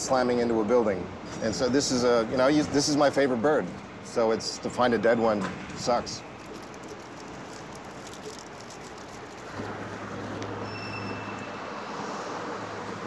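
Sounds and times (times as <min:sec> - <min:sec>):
traffic: 0:00.0 - 0:13.0.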